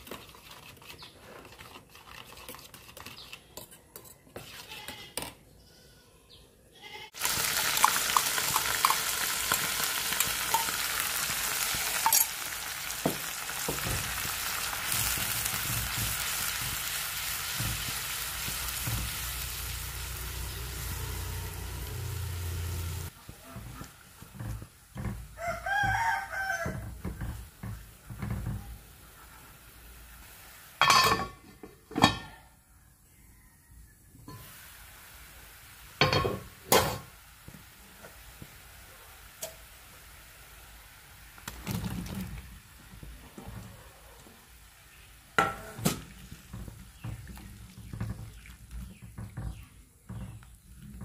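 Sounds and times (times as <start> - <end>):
gravy simmering and sizzling: 7.1 - 32.0, 34.3 - 51.0.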